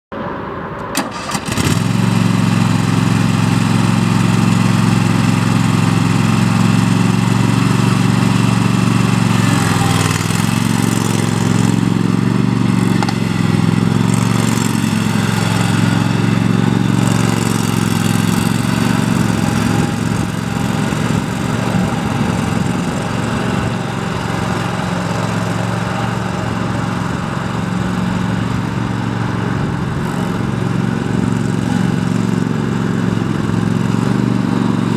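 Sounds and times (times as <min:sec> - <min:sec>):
mower engine running: 0:00.8 - 0:34.9.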